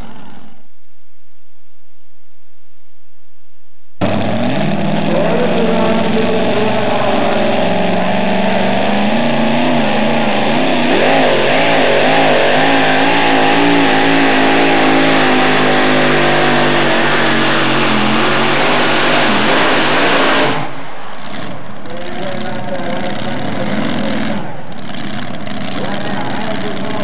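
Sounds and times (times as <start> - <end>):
truck engine revving hard: 0.0 - 0.6, 4.0 - 27.0.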